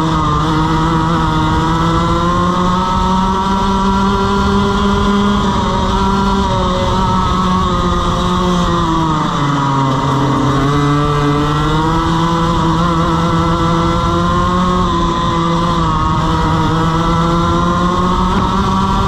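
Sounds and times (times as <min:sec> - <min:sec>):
two-stroke kart engine revving: 0:00.0 - 0:19.0.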